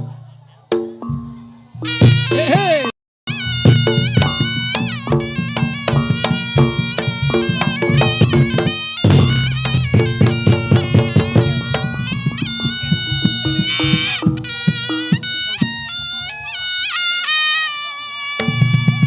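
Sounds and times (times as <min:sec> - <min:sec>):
drum strokes: 0:00.0 - 0:16.5, 0:18.4 - 0:19.0
reedy shawm melody: 0:00.0 - 0:19.0.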